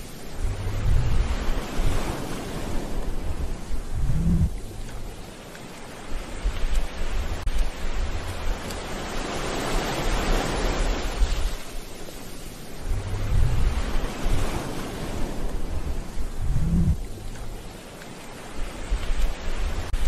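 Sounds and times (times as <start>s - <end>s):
low surf rumble: 0.0s - 20.0s
waves breaking and washing in: 0.0s - 20.0s.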